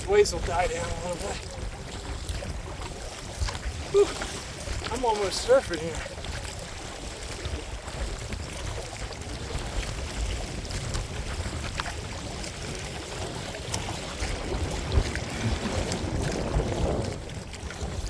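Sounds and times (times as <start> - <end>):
waves slapping kayak hull: 0.0 - 18.0
wind buffeting microphone: 0.0 - 18.0.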